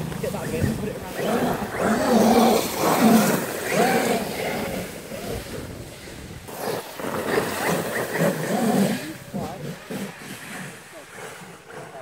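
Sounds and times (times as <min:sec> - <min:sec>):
vehicle motor revving: 0:00.0 - 0:12.0.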